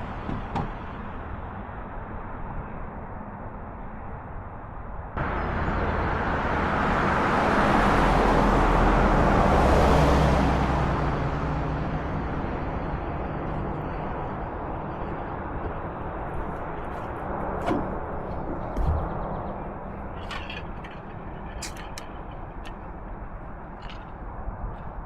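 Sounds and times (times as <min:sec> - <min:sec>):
passing vehicle road noise: 0:00.0 - 0:25.0.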